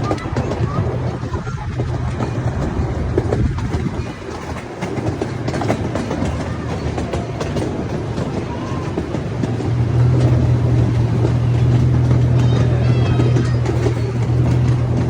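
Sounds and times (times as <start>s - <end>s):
low train drone: 0.0s - 15.0s
train wheels clicking over rail joints: 0.0s - 15.0s.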